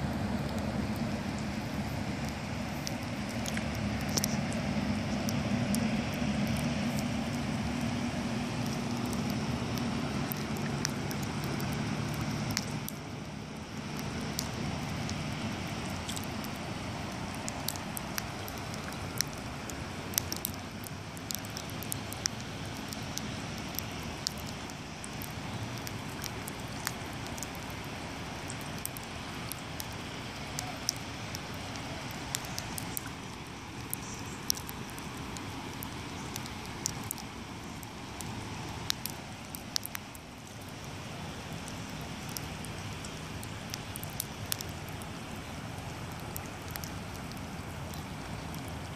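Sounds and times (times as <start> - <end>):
low steady rumble: 0.0 - 48.9
rain pattering: 0.0 - 48.9.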